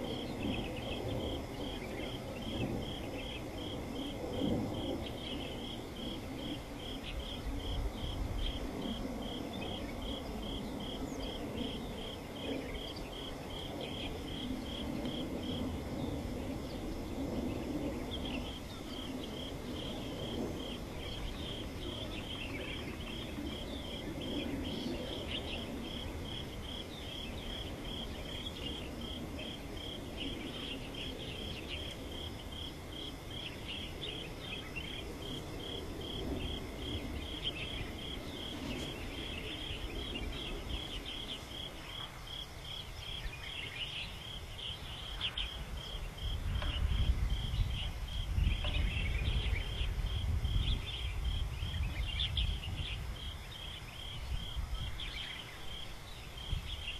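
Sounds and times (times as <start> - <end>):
cricket chirping: 0.0 - 56.9.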